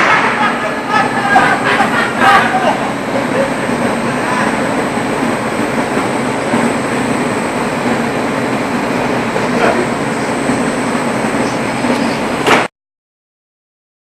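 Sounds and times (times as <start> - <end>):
loud steady noise: 0.0 - 12.7.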